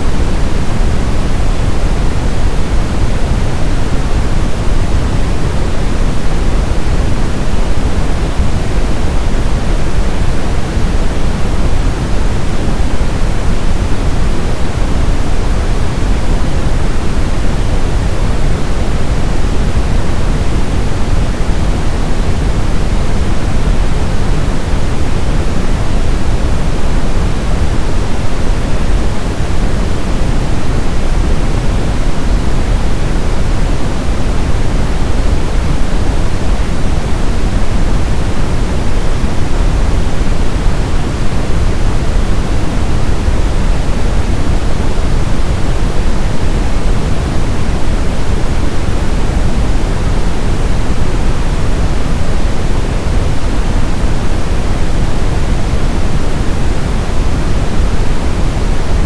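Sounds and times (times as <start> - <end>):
brown noise hiss: 0.0 - 59.0.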